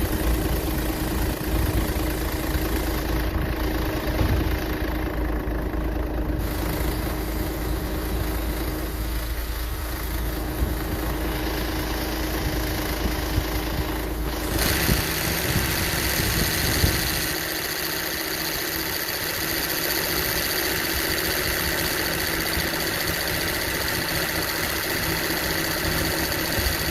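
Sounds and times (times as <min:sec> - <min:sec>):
ac compressor noise: 0:00.0 - 0:26.9
diesel engine idling: 0:00.0 - 0:26.9.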